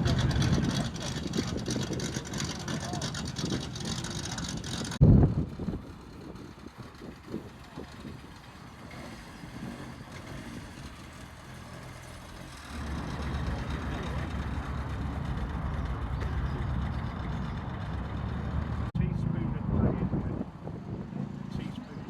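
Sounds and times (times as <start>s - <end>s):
car engine pulling close: 0.0s - 19.0s
car engines driving away: 0.0s - 22.0s.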